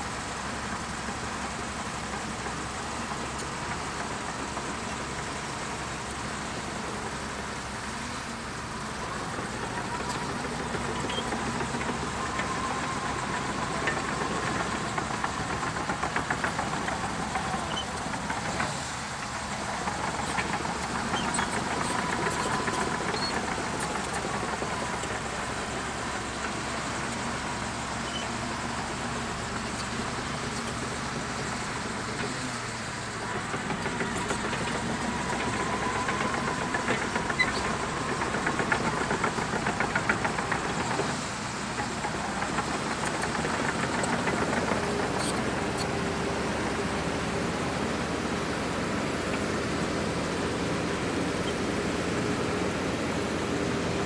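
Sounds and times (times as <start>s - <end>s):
bulldozer diesel engine rattling: 0.0s - 54.0s.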